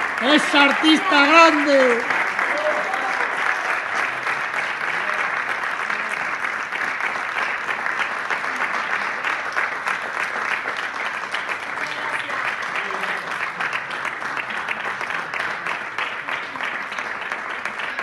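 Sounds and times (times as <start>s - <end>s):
crowd applauding: 0.0s - 18.0s.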